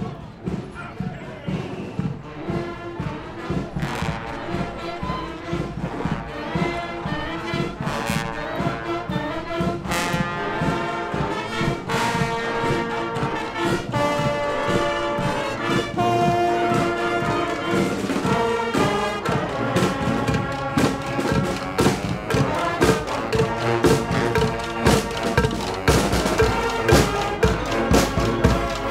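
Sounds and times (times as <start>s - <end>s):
brass band playing: 0.0s - 28.9s
drum strokes: 0.0s - 28.9s.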